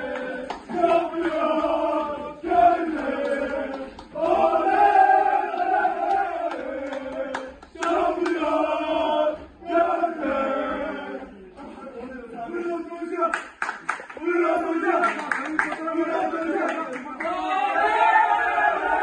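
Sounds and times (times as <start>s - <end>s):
men chanting in unison: 0.0s - 13.4s, 14.1s - 19.0s.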